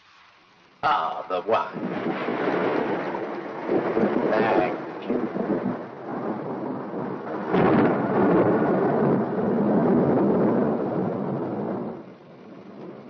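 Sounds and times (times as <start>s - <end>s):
thunder peal rumbling: 0.8s - 13.0s.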